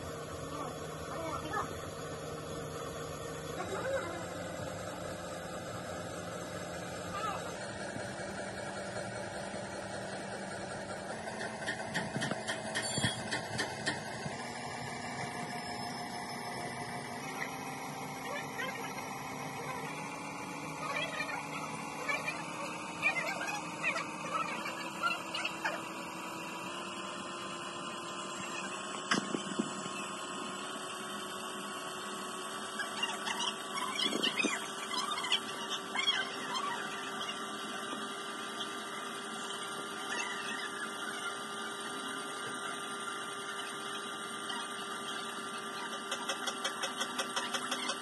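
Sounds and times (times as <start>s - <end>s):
brake lathe running: 0.0s - 48.0s.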